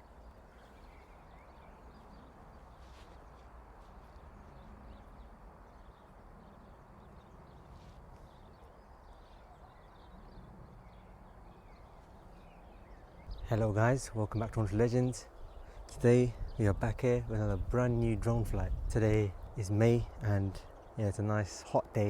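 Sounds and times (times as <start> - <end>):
bird chirps: 0.0 - 22.0.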